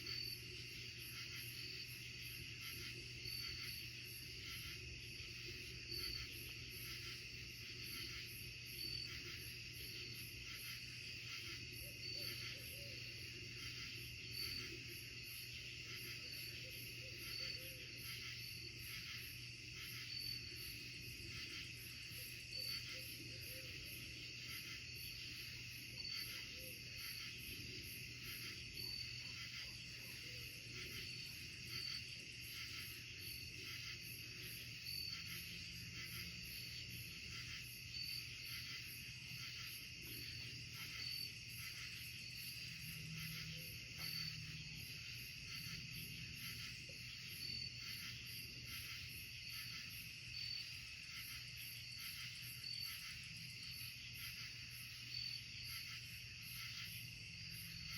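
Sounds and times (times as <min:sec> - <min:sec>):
crickets and insects calling: 0:00.0 - 0:57.9.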